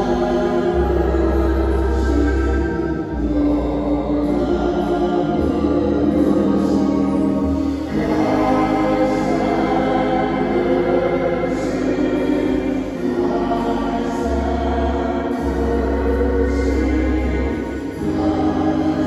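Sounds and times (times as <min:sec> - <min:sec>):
church organ chords: 0:00.0 - 0:19.0
voices singing: 0:00.0 - 0:19.0.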